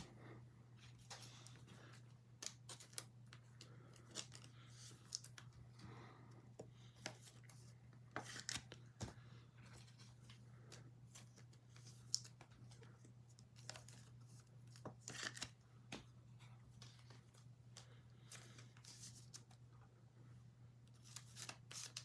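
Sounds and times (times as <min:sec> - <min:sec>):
cards and wrappers rustling: 0:00.0 - 0:05.8, 0:06.6 - 0:19.6, 0:20.9 - 0:22.0.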